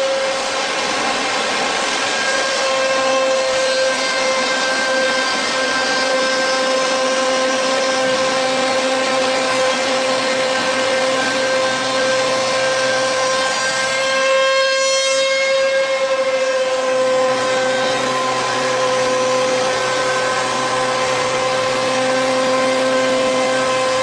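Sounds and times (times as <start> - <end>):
cutter machining wood: 0.0 - 24.0
router spindle whining: 0.0 - 24.0.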